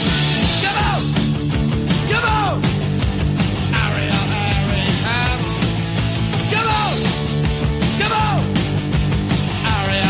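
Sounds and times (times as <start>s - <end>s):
rock song: 0.0s - 10.0s.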